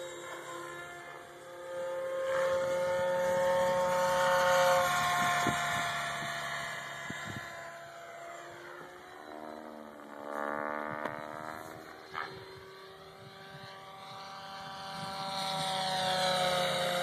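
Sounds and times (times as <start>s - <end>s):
model helicopter rotor whine: 0.0s - 17.0s.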